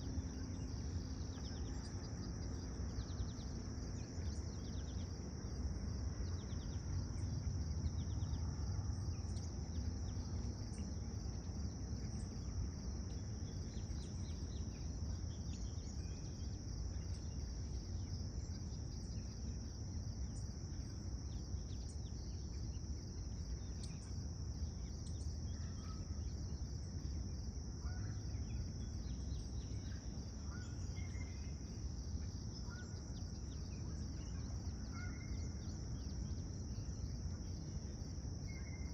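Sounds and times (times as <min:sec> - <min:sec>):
insect chorus trilling: 0:00.0 - 0:38.9
low background rumble: 0:00.0 - 0:38.9
faint bird chirps: 0:06.2 - 0:38.9.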